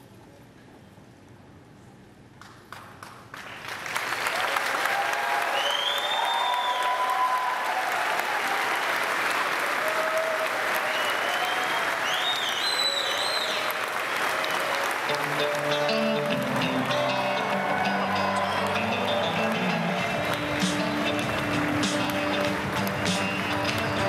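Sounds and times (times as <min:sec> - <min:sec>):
audience applauding: 0:02.4 - 0:24.0
high calls from crowd: 0:04.4 - 0:24.0.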